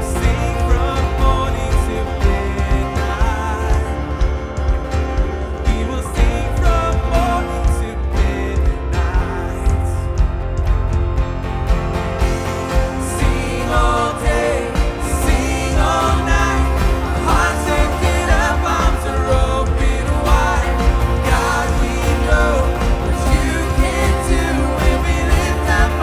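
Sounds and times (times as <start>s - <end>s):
person singing: 0.0s - 10.4s, 12.7s - 26.0s
bass: 0.0s - 26.0s
sustained keyboard chords: 0.0s - 26.0s
worship band playing: 0.0s - 26.0s.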